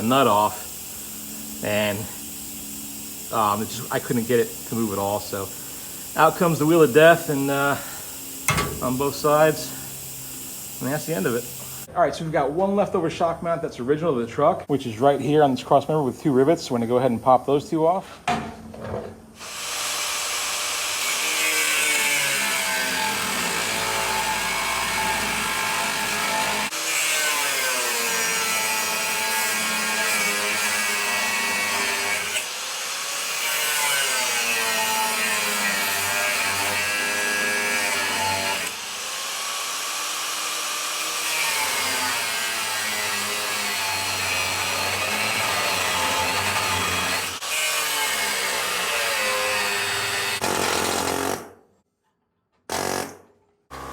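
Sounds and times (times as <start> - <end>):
angle grinder on steel: 0.0 - 11.9, 19.4 - 51.0.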